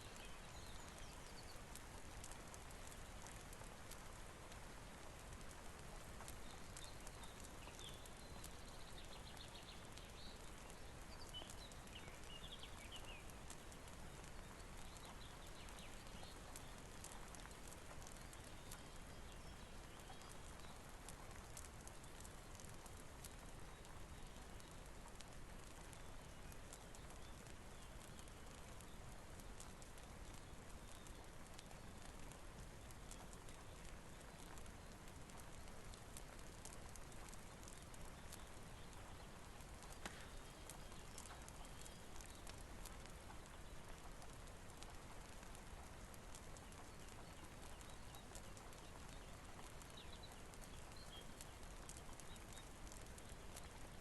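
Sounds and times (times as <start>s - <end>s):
fire crackling: 0.0s - 54.0s
soft hiss of rain: 0.0s - 54.0s.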